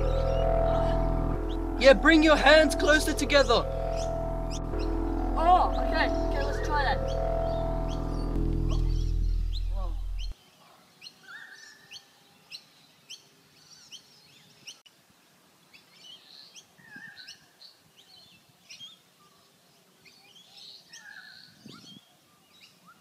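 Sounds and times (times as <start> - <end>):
songbirds chirping and warbling: 0.0 - 23.0.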